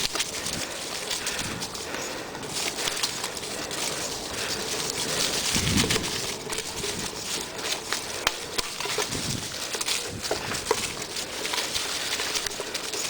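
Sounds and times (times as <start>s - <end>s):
bicycle tyres rushing on trail: 0.0s - 13.0s
crackles and clicks under wheels: 0.0s - 13.0s.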